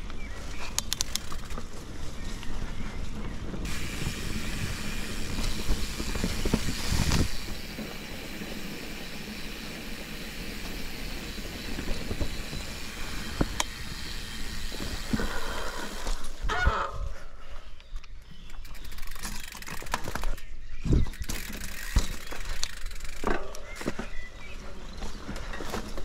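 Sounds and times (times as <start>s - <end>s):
bike tyres rumbling on dirt: 0.0s - 17.7s, 18.3s - 26.0s
bike rattling: 0.0s - 26.0s.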